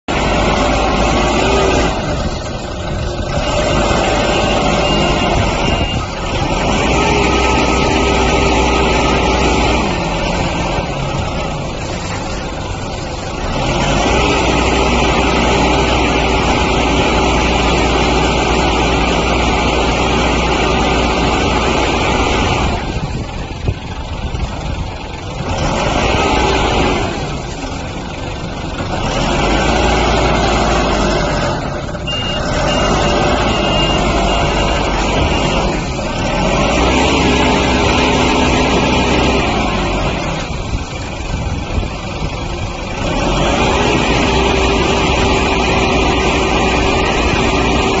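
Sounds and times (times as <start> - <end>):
diesel truck engine running: 0.0 - 48.0.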